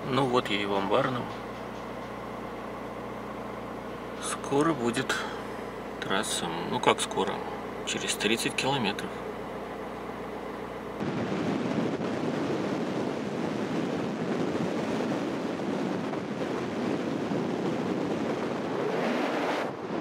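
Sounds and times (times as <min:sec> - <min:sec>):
car engine hum inside cabin: 0:00.0 - 0:20.0
wind and road noise: 0:00.0 - 0:20.0.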